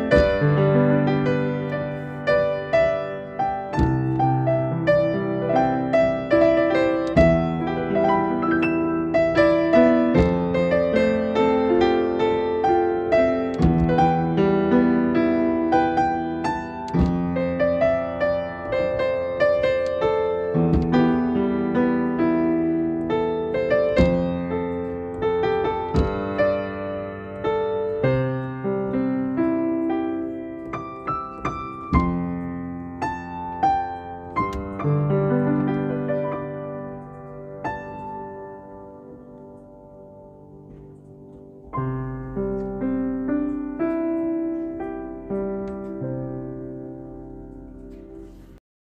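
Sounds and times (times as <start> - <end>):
slow gentle piano piece: 0.0 - 48.6.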